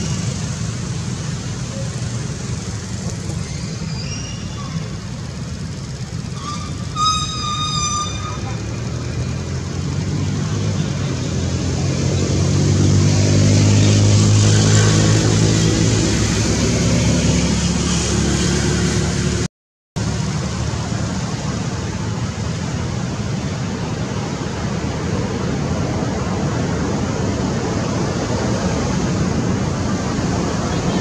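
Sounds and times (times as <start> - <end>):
vehicle engine passing by: 0.0 - 19.5, 25.5 - 31.0
steady noisy background: 0.0 - 31.0.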